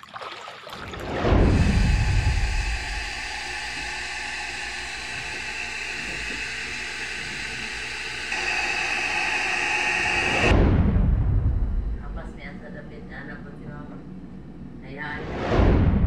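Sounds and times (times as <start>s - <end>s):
electric kettle hissing: 1.5s - 14.5s.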